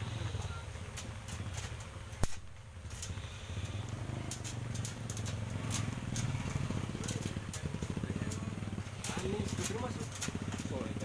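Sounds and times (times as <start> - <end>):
sharp clicks: 0.9 - 10.9.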